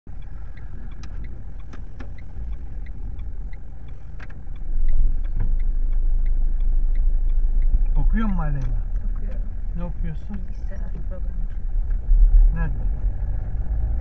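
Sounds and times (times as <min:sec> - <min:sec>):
car engine running: 0:00.0 - 0:14.0
turn signal ticking: 0:00.0 - 0:14.0.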